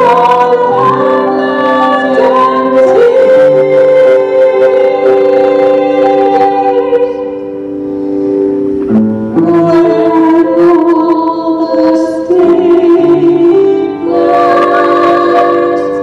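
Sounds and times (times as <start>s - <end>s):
vocal group singing in harmony: 0.0s - 7.5s, 9.3s - 16.0s
piano accompaniment: 0.0s - 16.0s.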